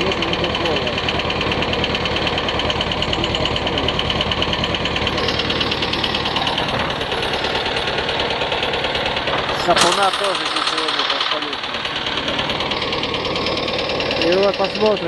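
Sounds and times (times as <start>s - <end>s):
tractor diesel engine knocking: 0.0s - 15.0s.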